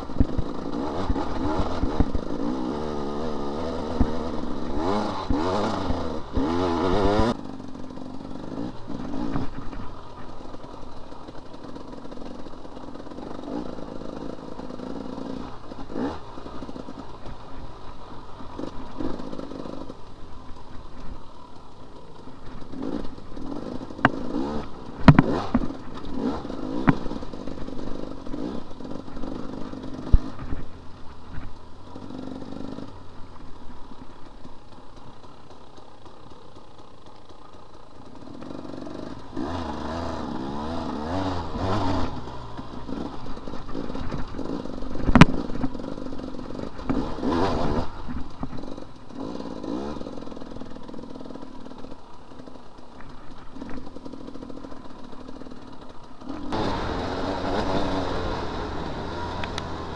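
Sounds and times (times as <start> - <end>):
dirt bike engine revving: 0.0 - 59.9
rattles and knocks from bike: 0.0 - 59.9.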